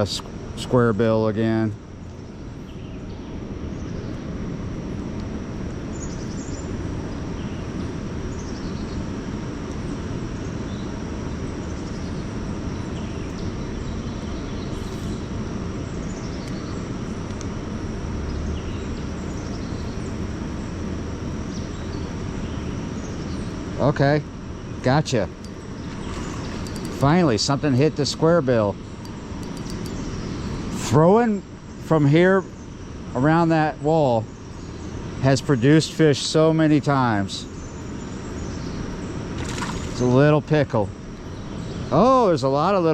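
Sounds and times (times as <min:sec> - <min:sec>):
thin high whine: 0:00.0 - 0:41.0.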